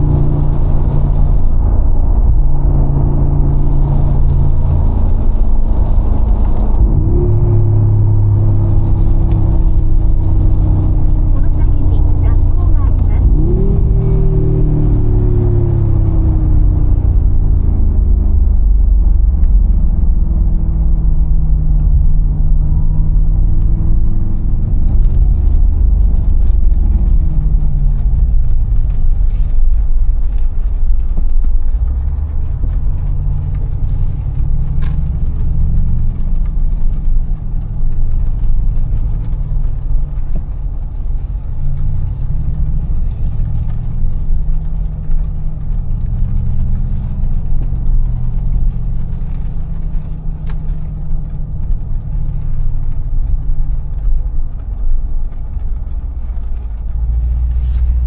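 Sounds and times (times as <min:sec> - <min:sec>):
car engine droning while driving: 0:00.0 - 0:58.0.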